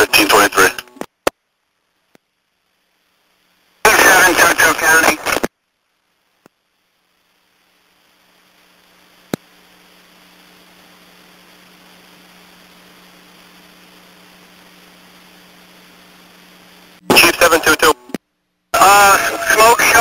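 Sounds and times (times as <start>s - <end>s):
low mains hum: 0.0s - 20.0s
radio static hiss: 0.0s - 20.0s.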